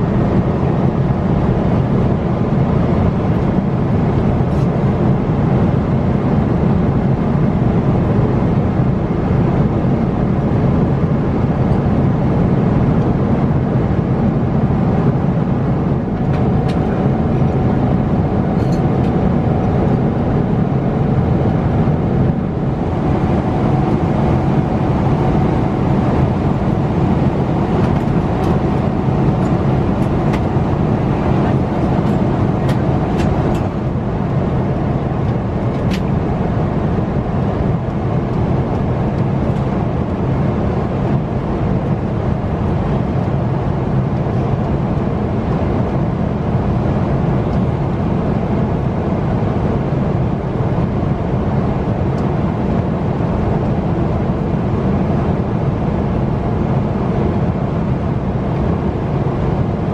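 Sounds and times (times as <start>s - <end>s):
airliner cabin engine noise: 0.0s - 59.9s.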